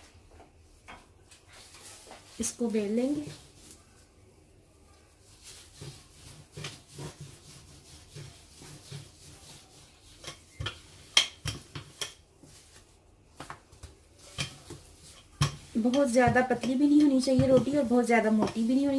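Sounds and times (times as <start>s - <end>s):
rolling pin rubbing on dough: 1.5s - 4.1s, 5.0s - 18.9s.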